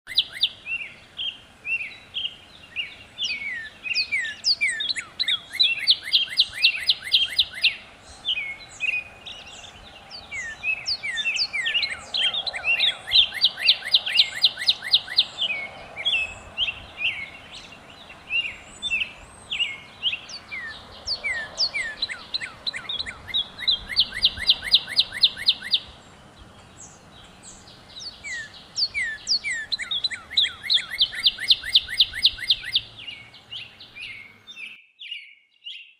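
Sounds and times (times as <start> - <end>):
bird whistling and trilling: 0.1 - 0.9, 1.7 - 9.6, 10.2 - 17.3, 18.4 - 26.0, 28.0 - 34.3
higher bird notes: 0.1 - 34.8.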